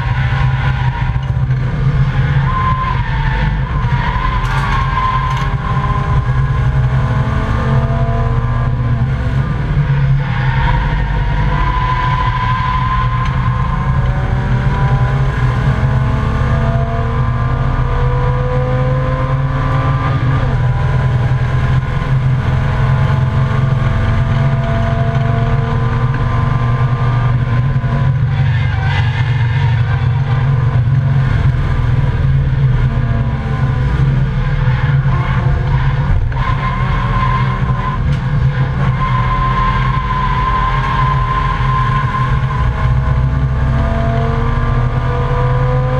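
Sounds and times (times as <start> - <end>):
car engine accelerating: 0.0 - 45.9
road and wind noise: 0.0 - 45.9.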